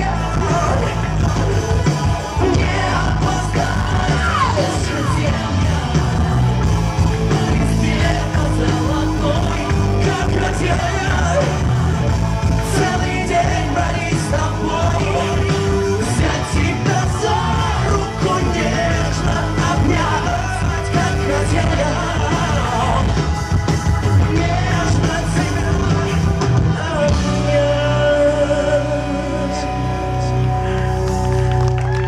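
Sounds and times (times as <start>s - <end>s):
band with keyboards: 0.0s - 32.0s
man singing live: 0.0s - 32.0s.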